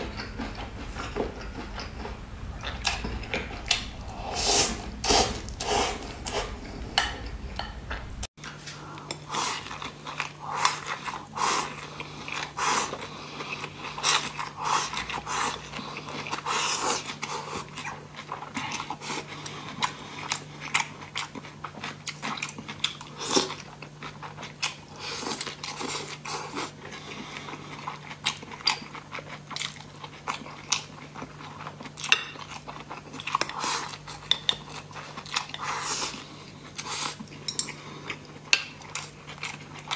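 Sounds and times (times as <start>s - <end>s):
low steady hum: 0.0s - 39.9s
person chewing food: 0.0s - 39.9s.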